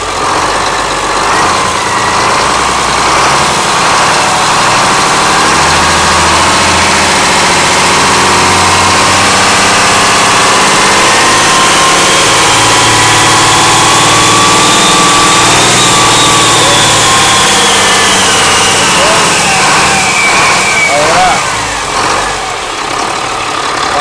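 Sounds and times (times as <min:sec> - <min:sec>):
marine diesel engine running: 0:00.0 - 0:24.0.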